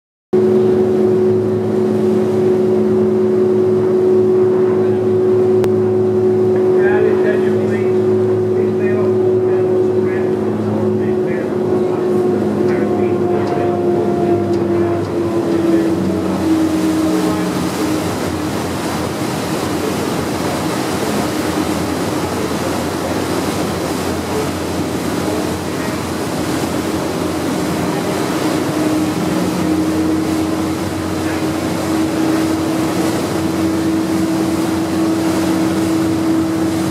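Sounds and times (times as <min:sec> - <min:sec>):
ferry engines humming: 0:00.4 - 0:36.9
wake water rushing along hull: 0:00.4 - 0:36.9.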